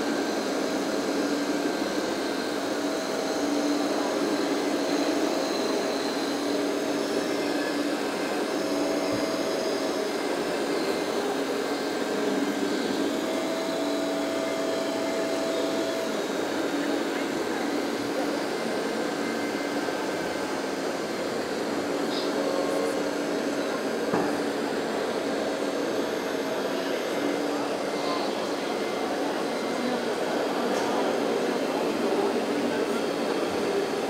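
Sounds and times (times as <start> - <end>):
crowd din in a hall: 0.0 - 34.0
hydraulic pump whining: 0.0 - 34.0.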